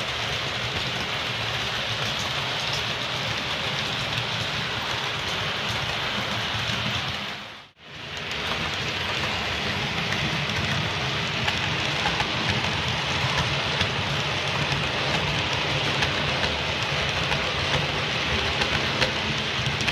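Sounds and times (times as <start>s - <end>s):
wheels rattling on track: 0.0s - 19.9s.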